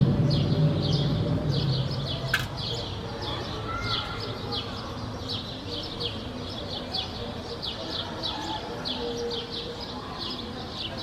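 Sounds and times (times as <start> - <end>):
low background noise: 0.0 - 11.0
small birds chirping: 0.0 - 11.0.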